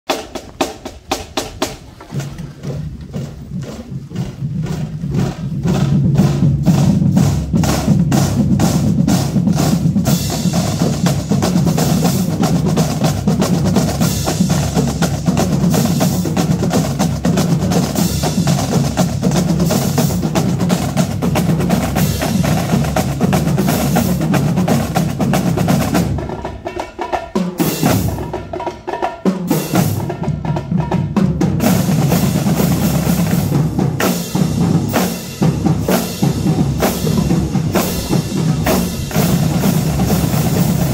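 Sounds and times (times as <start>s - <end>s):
marching drum line: 0.1s - 40.9s.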